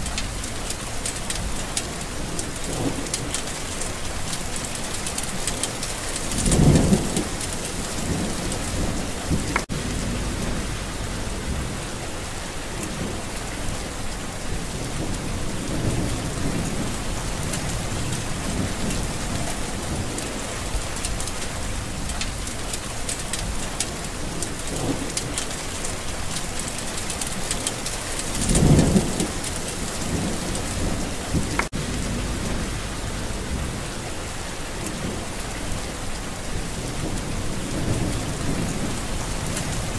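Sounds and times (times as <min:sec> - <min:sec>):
rain pattering: 0:00.0 - 0:39.9
thunder rumbling: 0:00.0 - 0:39.9.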